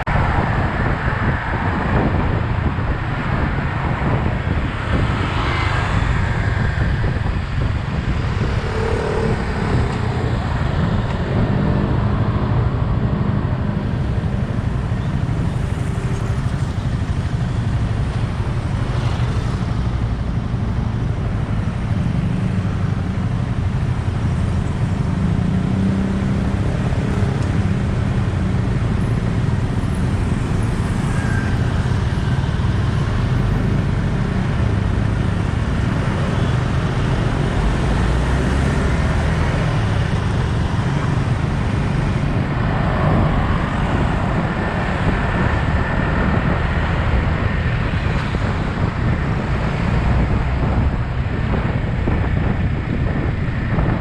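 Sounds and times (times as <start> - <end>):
road and traffic noise: 0.0 - 54.0.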